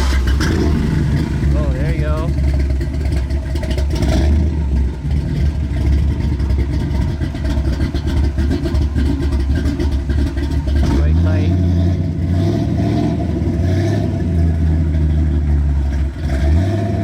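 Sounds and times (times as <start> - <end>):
engine deep rough rumble: 0.0 - 17.0.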